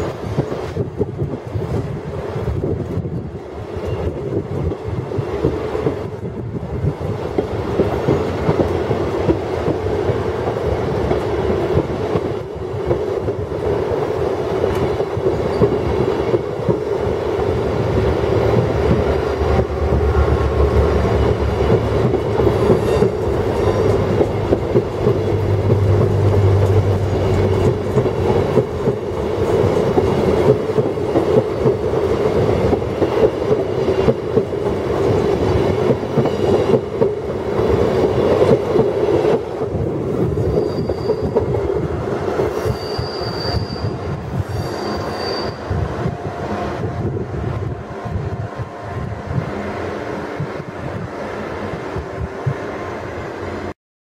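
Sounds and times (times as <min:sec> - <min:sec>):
train wheels rumbling on rails: 0:00.0 - 0:53.7.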